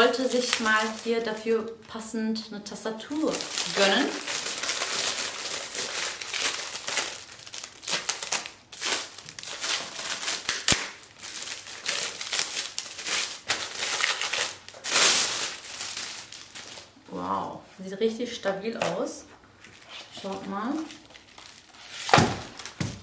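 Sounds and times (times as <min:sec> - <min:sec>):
plastic film crinkling: 0:00.0 - 0:17.1, 0:18.7 - 0:23.0.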